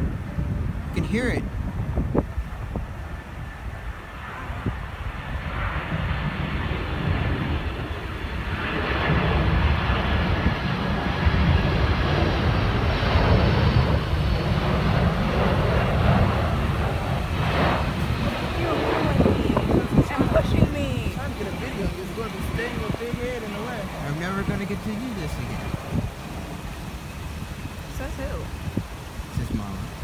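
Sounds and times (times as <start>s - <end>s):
jet airliner passing low: 0.0s - 30.0s.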